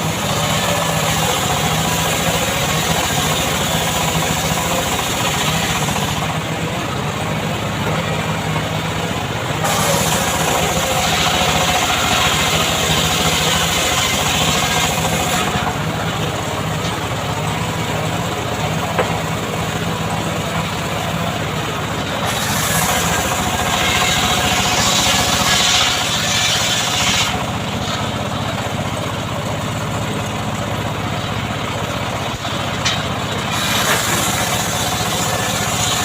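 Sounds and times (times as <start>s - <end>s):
chainsaw engine cutting wood: 0.0s - 6.7s, 7.8s - 28.1s, 32.9s - 36.0s.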